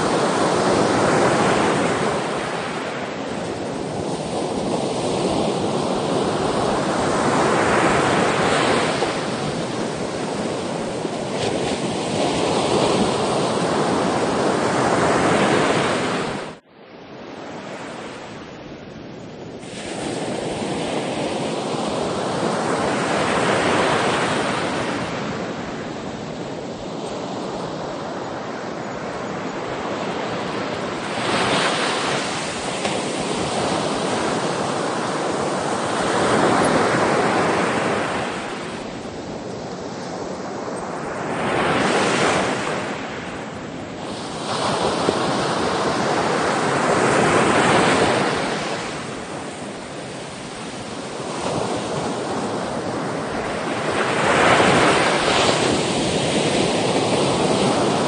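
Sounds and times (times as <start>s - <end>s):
sea waves breaking on shore: 0.0s - 16.6s, 19.5s - 58.0s.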